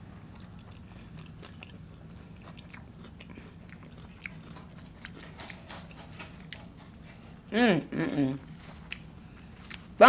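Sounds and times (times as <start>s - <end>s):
people chewing food: 0.3s - 7.5s, 8.4s - 10.0s.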